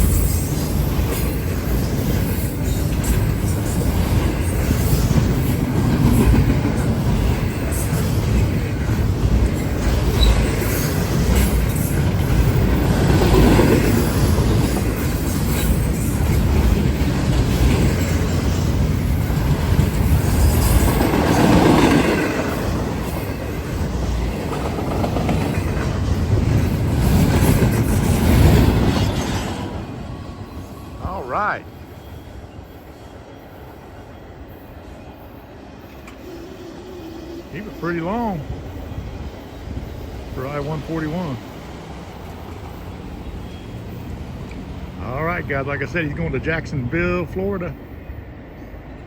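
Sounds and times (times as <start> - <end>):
freight train wheels on rail: 0.0 - 49.0.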